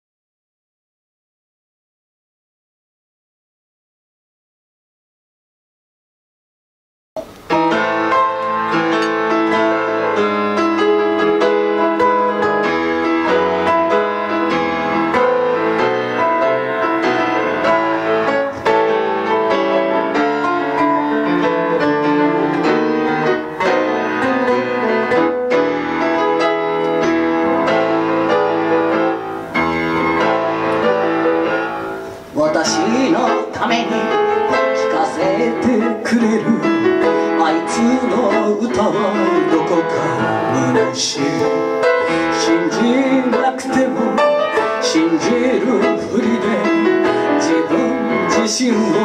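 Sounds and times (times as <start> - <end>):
piano instrumental: 7.2 - 49.0.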